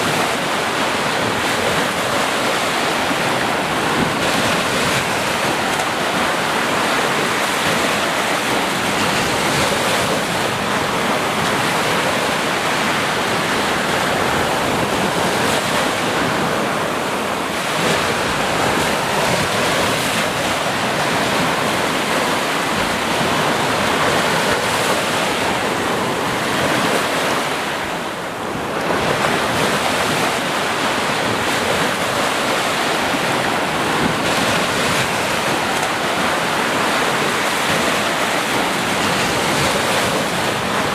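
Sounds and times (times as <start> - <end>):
sea surf washing ashore: 0.0 - 40.9.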